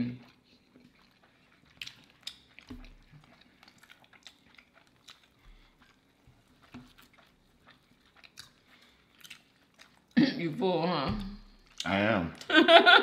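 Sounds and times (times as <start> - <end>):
chewing and wet mouth sounds: 0.0 - 12.6.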